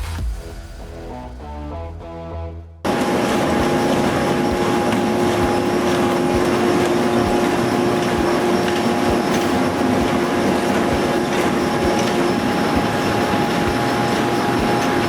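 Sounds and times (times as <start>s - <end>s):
heavy machinery humming: 2.9s - 15.0s.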